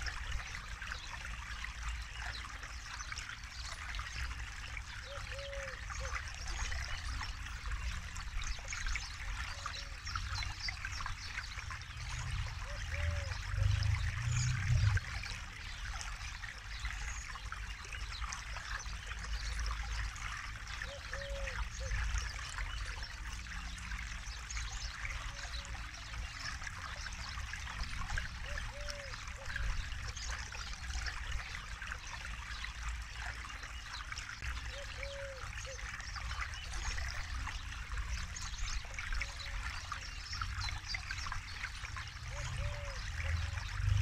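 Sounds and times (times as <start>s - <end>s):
river water babbling: 0.0s - 44.0s.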